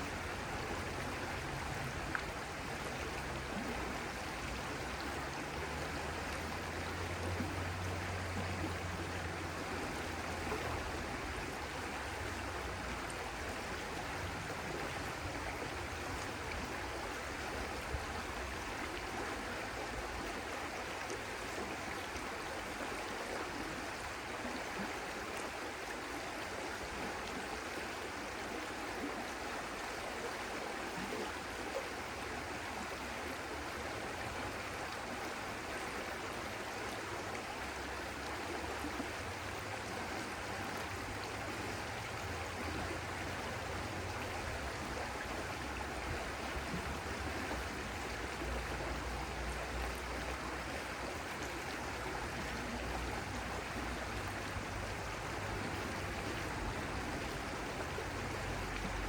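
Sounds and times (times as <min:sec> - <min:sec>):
stream of water rushing: 0:00.0 - 0:59.0.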